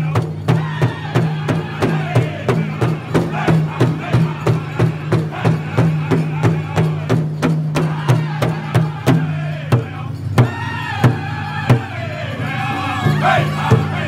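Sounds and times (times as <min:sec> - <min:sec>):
drummers striking large drum: 0:00.0 - 0:12.2
men singing high-pitched: 0:00.0 - 0:14.0.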